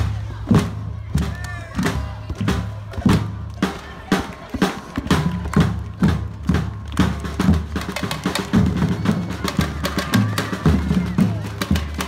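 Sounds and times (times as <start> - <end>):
stick strikes on small drums: 0.0 - 12.0.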